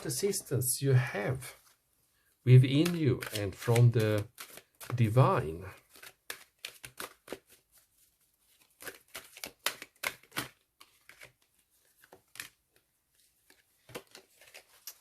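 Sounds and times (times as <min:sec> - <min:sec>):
cards being shuffled: 0:02.5 - 0:15.0.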